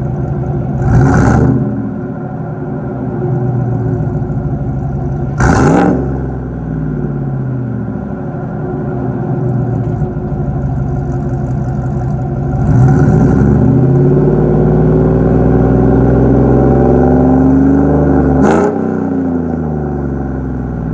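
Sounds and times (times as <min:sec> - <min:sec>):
pickup truck engine revving: 0:00.0 - 0:02.2, 0:02.9 - 0:07.2, 0:08.9 - 0:20.4.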